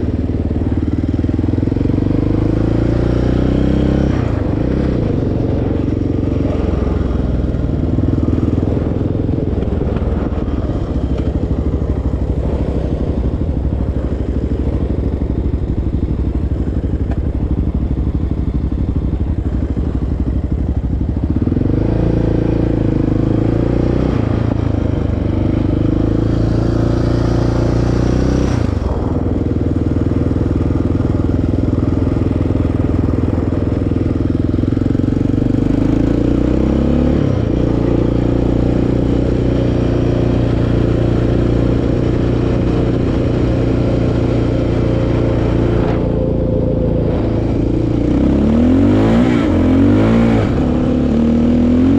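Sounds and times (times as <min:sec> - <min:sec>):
quad engine running: 0:00.0 - 0:51.9.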